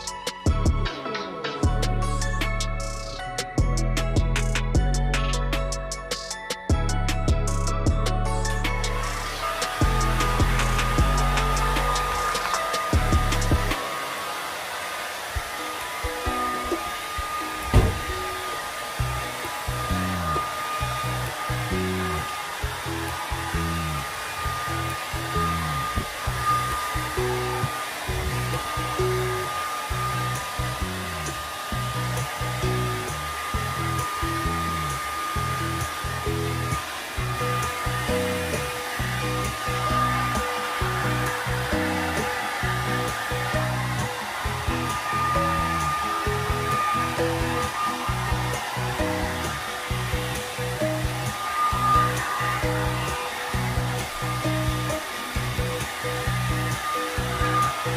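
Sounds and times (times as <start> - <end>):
background music: 0.0 - 57.9
hair dryer blowing: 0.0 - 57.9.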